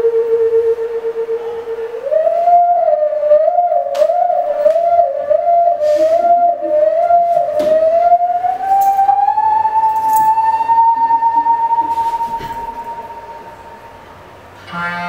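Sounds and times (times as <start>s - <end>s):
wavering siren-like tone: 0.0s - 14.0s
eerie dance music: 0.0s - 15.0s.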